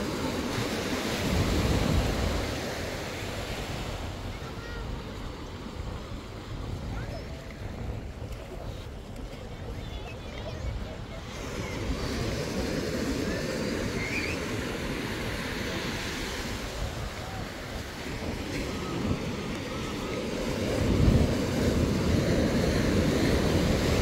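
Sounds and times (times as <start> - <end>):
surf washing onto beach: 0.0 - 24.0
wind rumbling on microphone: 0.0 - 24.0.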